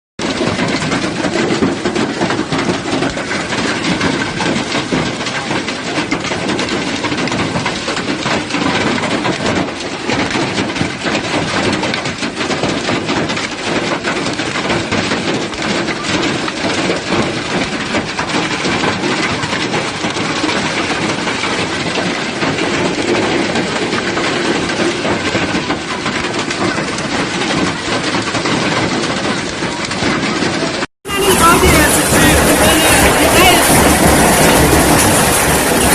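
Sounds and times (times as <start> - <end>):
heavy hail clattering: 0.2 - 35.9.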